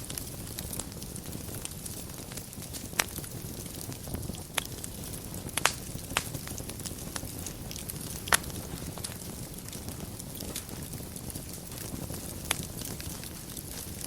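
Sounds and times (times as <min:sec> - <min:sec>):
sharp pops of fire: 0:00.0 - 0:14.0
wood fire crackling: 0:00.0 - 0:14.0.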